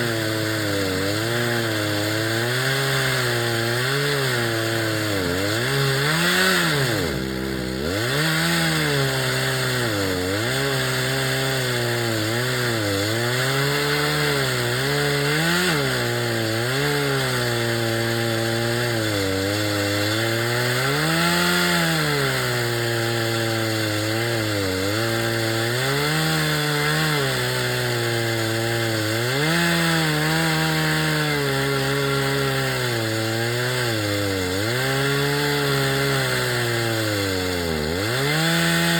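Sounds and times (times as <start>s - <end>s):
chainsaw ripping along log: 0.0s - 38.9s.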